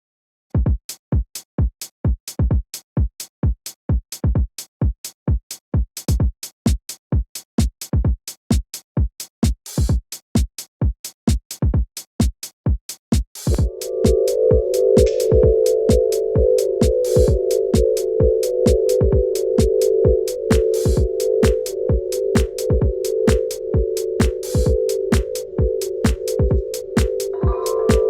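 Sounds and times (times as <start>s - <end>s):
drum machine kick drum: 0.6s - 28.0s.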